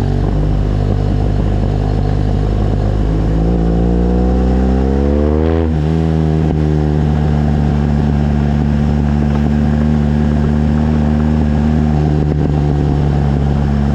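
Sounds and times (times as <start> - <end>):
motorcycle engine revving and idling: 0.0 - 13.9.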